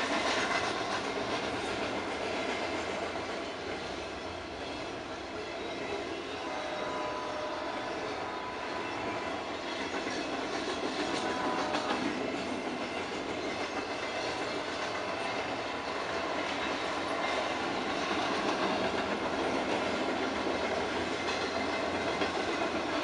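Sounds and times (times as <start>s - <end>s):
train wheels clattering on rails: 0.0s - 23.0s.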